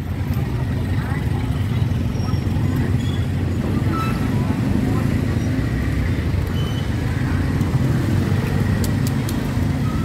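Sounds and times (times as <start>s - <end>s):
traffic hum: 0.0s - 10.0s.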